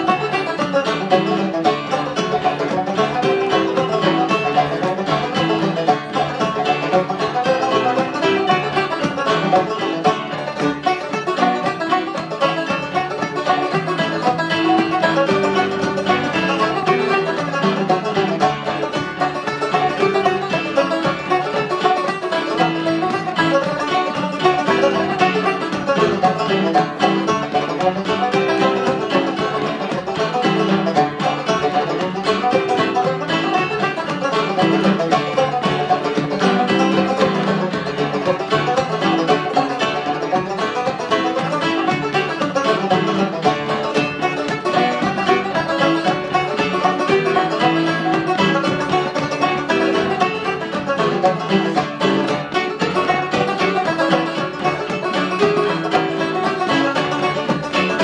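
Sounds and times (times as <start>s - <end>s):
banjos picking fast tune: 0.0s - 58.0s.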